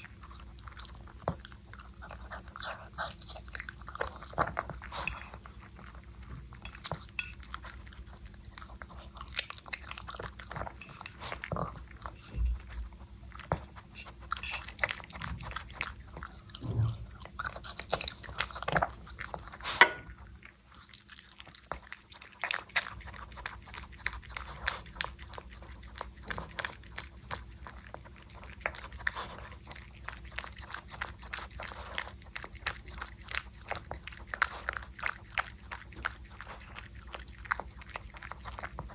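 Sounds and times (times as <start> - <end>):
puppy chewing and eating: 0.0 - 38.9.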